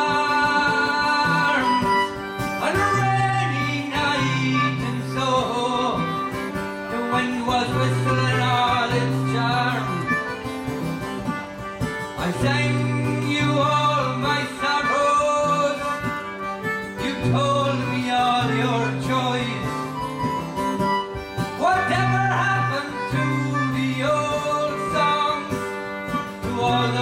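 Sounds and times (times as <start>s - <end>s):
man singing: 0.0s - 10.8s, 12.0s - 27.0s
concertina chords: 0.0s - 27.0s
strummed acoustic guitar: 0.0s - 27.0s.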